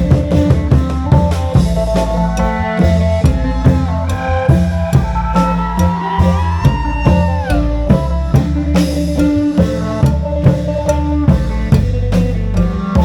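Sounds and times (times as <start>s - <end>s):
held melodic tones: 0.0s - 13.0s
long drums beating: 0.0s - 13.0s.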